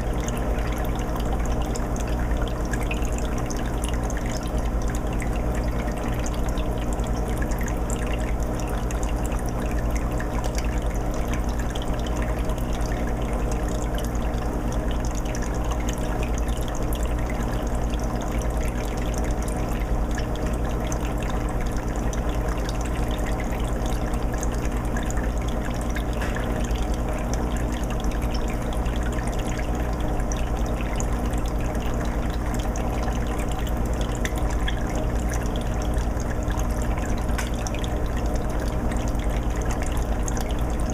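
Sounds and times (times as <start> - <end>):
aquarium filter water trickling: 0.0 - 40.9.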